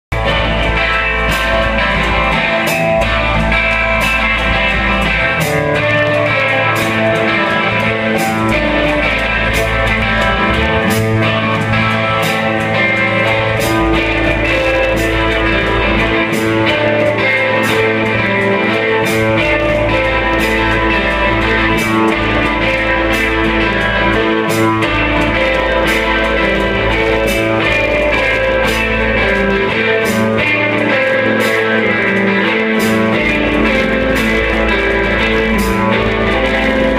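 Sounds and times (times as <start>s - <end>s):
bass guitar: 0.0s - 36.9s
electric guitars: 0.0s - 36.9s
drum kit beat: 0.1s - 36.9s.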